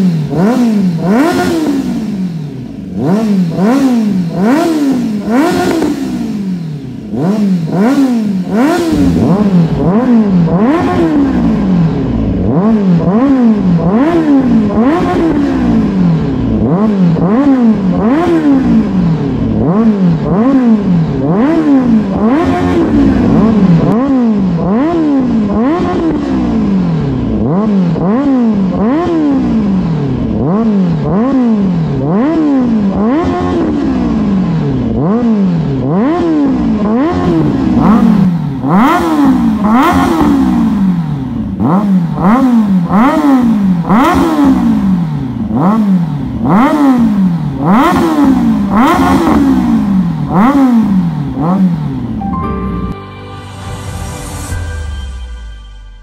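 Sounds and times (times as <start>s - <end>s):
motorcycle engine revving: 0.0s - 52.3s.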